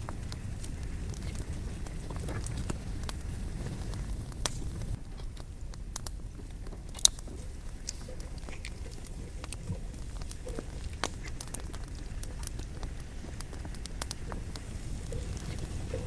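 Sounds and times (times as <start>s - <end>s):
burning logs popping: 0.0s - 16.0s
low fire rumble: 0.0s - 16.0s
wood fire crackling: 0.0s - 16.0s.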